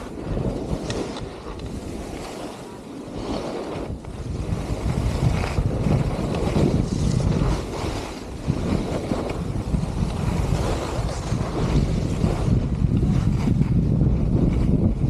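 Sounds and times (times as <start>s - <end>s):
skis scraping over snow: 0.0s - 15.0s
wind rumbling on microphone: 0.0s - 15.0s.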